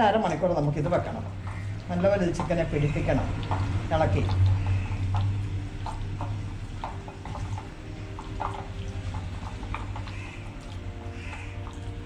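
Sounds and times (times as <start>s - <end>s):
steady low hum: 0.0s - 12.0s
soft wet clicks and smacks: 0.8s - 12.0s.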